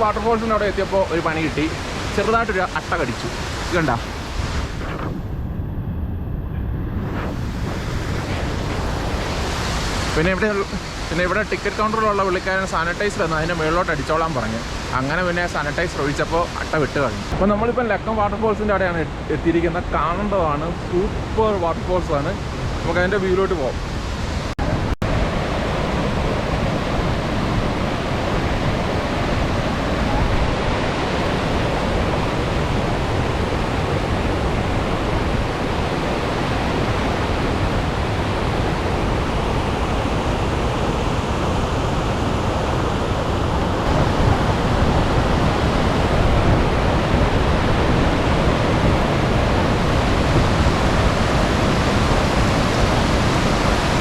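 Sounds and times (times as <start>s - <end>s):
waterfall roaring over rocks: 0.0s - 4.9s, 8.0s - 54.0s.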